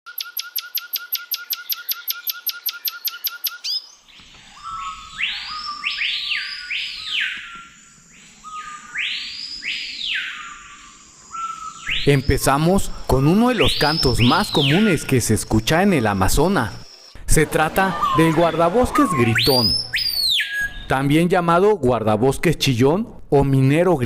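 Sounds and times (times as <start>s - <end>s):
loud whistled bird calls: 0.1s - 17.2s, 17.8s - 21.0s.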